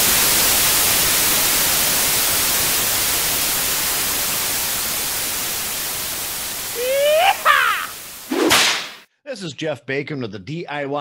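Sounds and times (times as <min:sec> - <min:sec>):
loud static hiss: 0:00.0 - 0:09.0.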